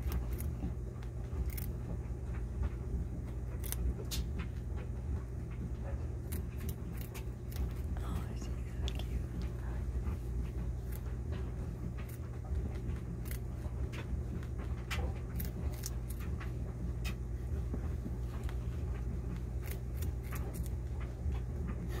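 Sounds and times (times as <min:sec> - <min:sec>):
rabbit crunching carrot: 0:00.0 - 0:22.0
steady low hum: 0:00.0 - 0:22.0.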